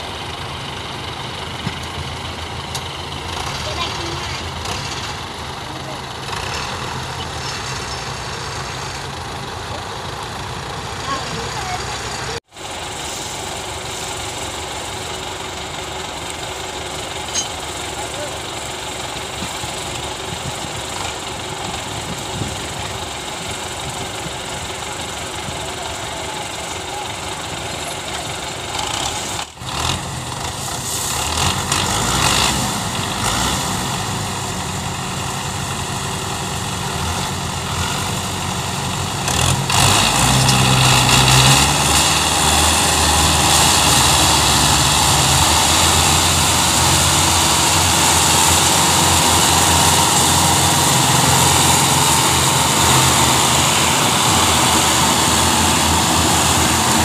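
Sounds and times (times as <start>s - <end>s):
tractor diesel engines running: 0.0s - 57.0s.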